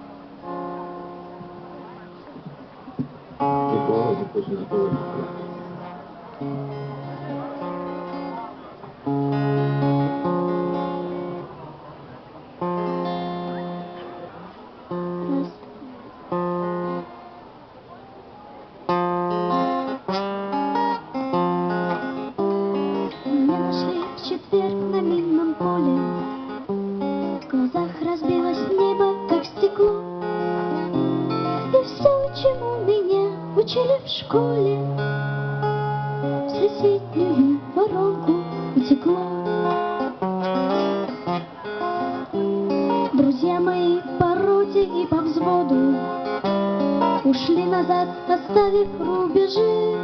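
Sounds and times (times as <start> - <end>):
acoustic guitar strummed chords: 0.0 - 50.0.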